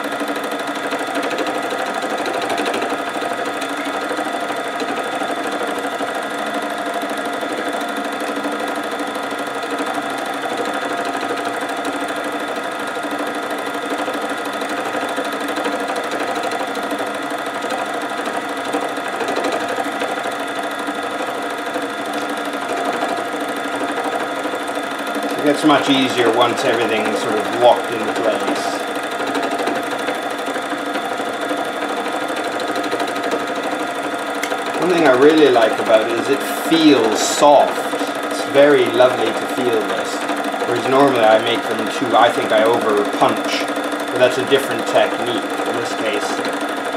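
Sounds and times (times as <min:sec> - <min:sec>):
felting machine humming: 0:00.0 - 0:46.9.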